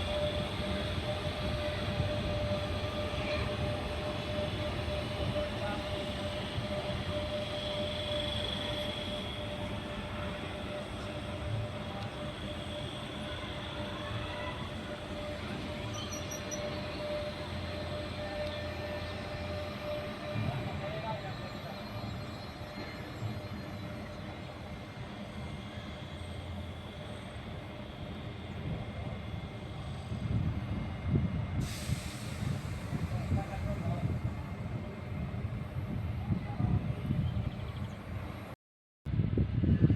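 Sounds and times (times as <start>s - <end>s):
electric train rumble and whine: 0.0s - 39.9s.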